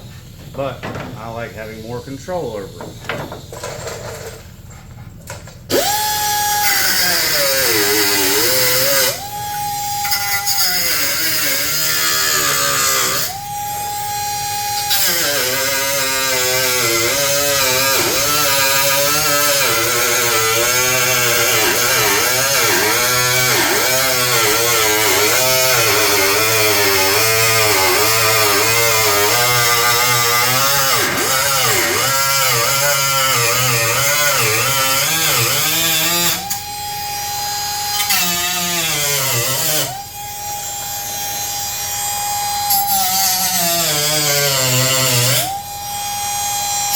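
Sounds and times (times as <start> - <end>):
cutoff wheel cutting sheet steel: 5.7 - 36.6, 37.3 - 39.9, 40.5 - 46.9.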